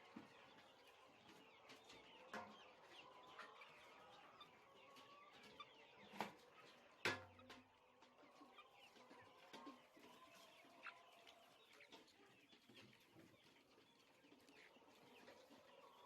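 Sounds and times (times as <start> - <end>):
poultry clucking and chirping: 0.0 - 16.0.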